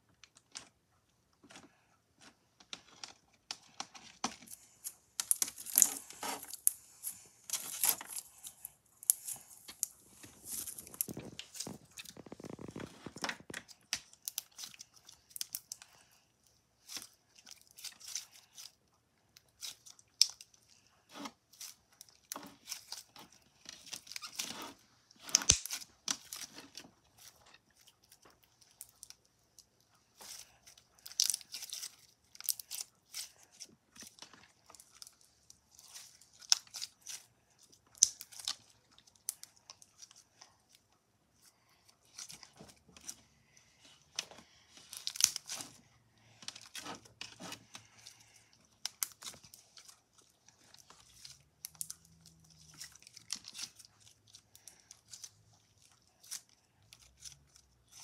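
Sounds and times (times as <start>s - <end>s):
slime squelching and crackling: 0.0s - 58.0s.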